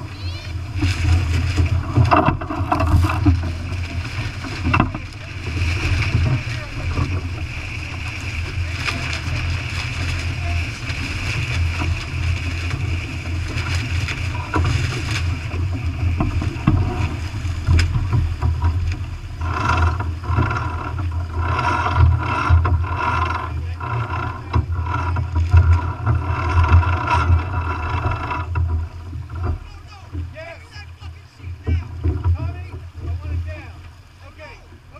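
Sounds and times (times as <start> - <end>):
water rushing past hull: 0.0 - 34.9.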